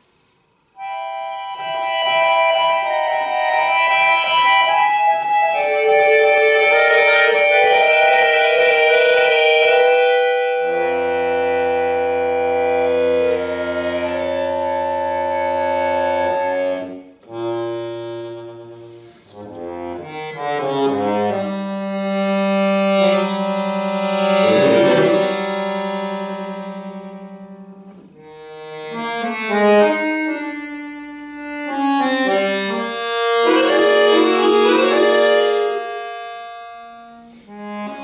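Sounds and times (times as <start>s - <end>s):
button accordion playing chords: 0.8s - 38.0s.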